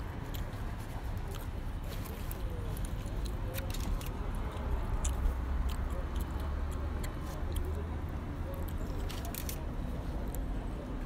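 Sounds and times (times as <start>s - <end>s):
flatbread wrapping clicks and rustles: 0.0s - 11.0s.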